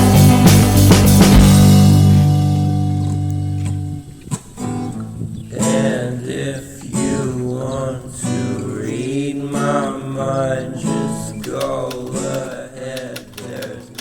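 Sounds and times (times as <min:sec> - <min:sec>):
acoustic guitar strumming music: 0:00.0 - 0:13.0.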